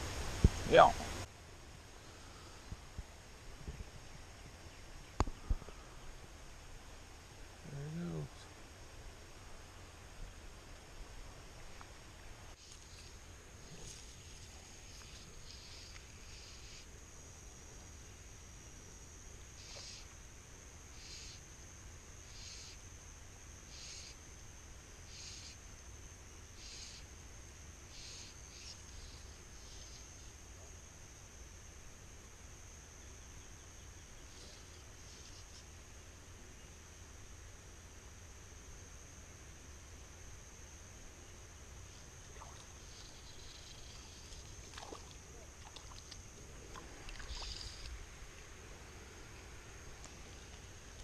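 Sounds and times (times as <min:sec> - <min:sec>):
insect raspy buzz: 0:00.0 - 0:51.0
insects droning: 0:00.0 - 0:51.0.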